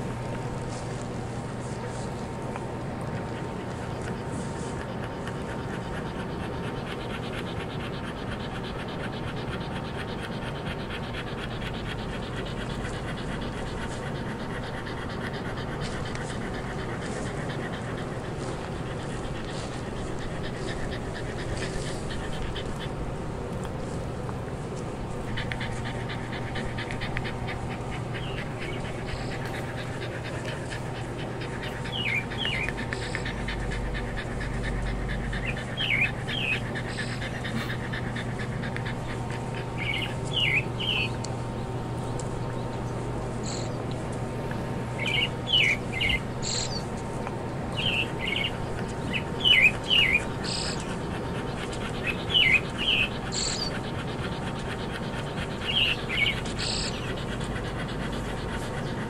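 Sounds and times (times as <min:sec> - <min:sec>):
dog panting: 0:00.0 - 0:59.0
small birds chirping: 0:00.0 - 0:59.0.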